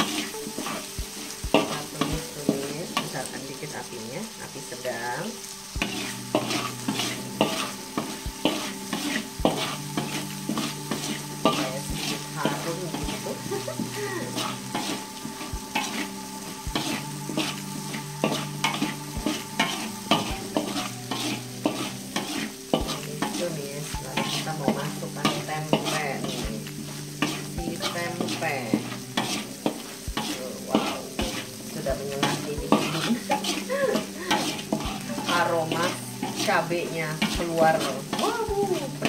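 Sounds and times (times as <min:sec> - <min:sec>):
spatula scraping a wok: 0:00.0 - 0:39.0
spice paste sizzling in oil: 0:00.0 - 0:39.0.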